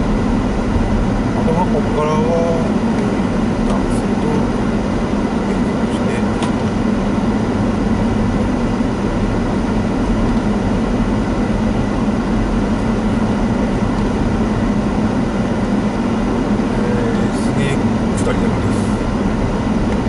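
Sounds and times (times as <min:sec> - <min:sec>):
tyres and engine rumble: 0:00.0 - 0:20.0.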